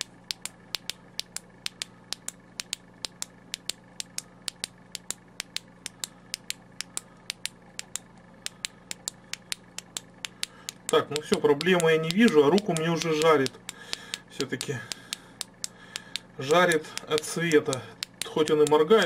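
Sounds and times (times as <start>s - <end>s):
flashlight switch clicking: 0.0s - 18.8s.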